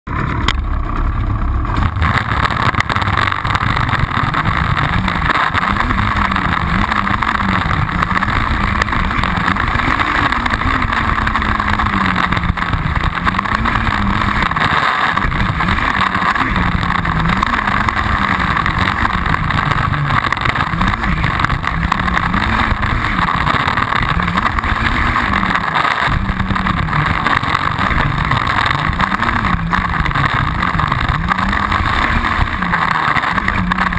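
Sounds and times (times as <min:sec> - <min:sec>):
two-stroke engine revving: 0:00.1 - 0:33.9.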